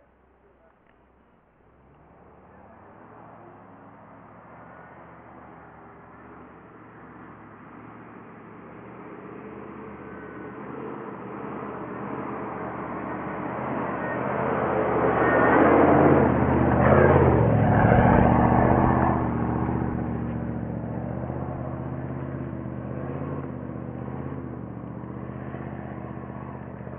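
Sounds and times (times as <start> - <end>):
vehicle driving past on dirt track: 1.6 - 26.9.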